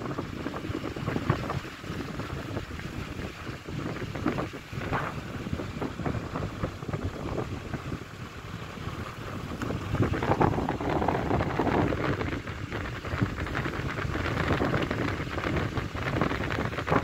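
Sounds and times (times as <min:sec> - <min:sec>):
moving vehicle rumble: 0:00.0 - 0:17.0
wind buffeting microphone: 0:00.0 - 0:17.0.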